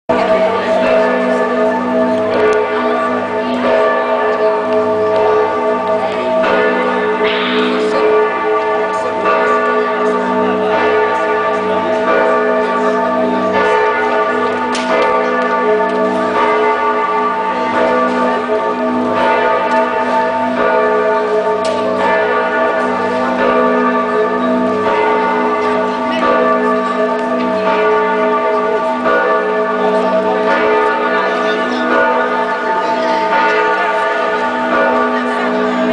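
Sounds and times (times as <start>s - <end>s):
church bells ringing: 0.1s - 35.9s.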